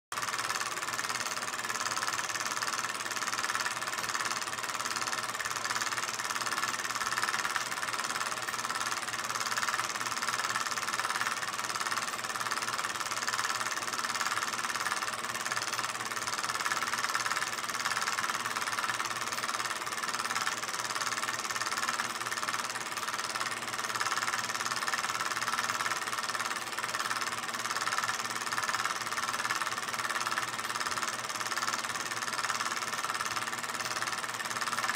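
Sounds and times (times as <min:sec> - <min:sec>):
film projector clatter: 0:00.1 - 0:34.9.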